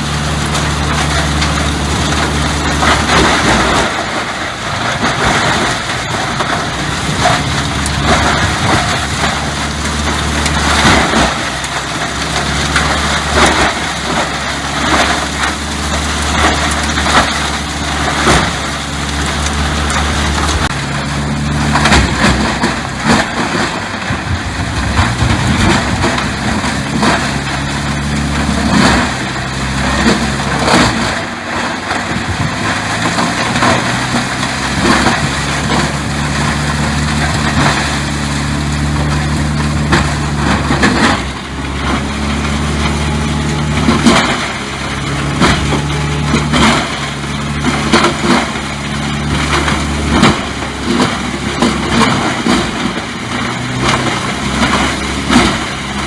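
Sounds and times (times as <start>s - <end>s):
heavy machine engine running: 0.0s - 56.0s
wood crunching and cracking: 0.0s - 56.0s.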